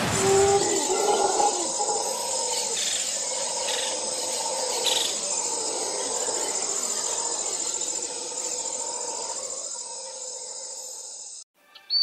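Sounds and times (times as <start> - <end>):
high insect chirps: 0.0 - 11.5
insects buzzing: 0.0 - 11.5.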